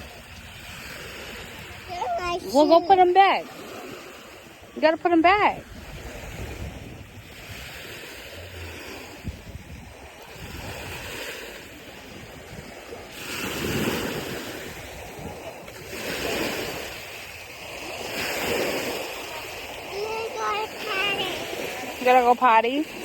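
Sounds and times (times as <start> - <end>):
ocean surf washing onto beach: 0.0 - 23.0
wind buffeting microphone: 0.0 - 23.0.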